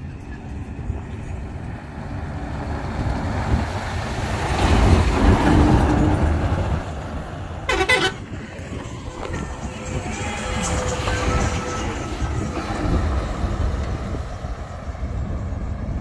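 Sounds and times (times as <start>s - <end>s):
heavy truck passing by: 0.0s - 16.0s.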